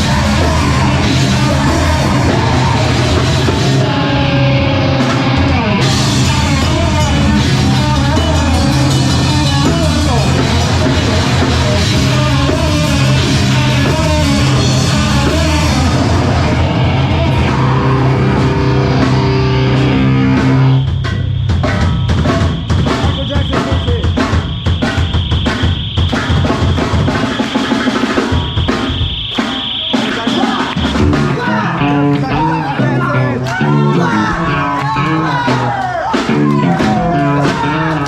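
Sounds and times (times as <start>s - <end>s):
drum kit fast beat: 0.0s - 38.0s
rock band playing heavy music: 0.0s - 38.0s.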